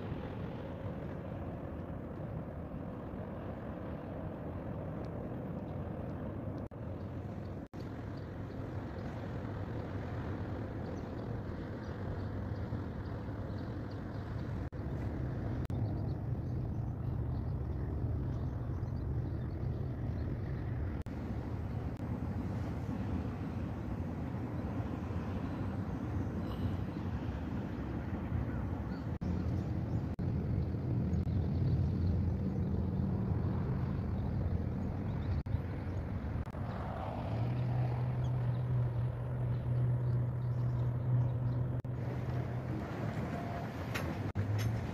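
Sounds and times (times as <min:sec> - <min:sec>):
ship engine rumble: 0:00.0 - 0:44.9.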